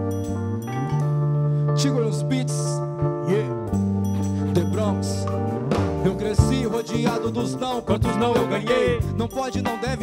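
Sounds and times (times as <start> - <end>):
bass note: 0.0 - 9.4
keyboard chord: 0.0 - 10.0
rap beat: 1.8 - 10.0.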